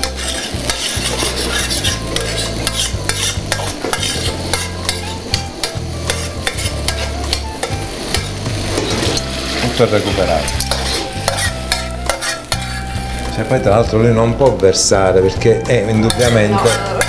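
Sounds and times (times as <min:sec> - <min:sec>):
utensils clattering in a metal pan: 0:00.0 - 0:13.5, 0:15.7 - 0:17.0
sauce sizzling: 0:00.0 - 0:17.0.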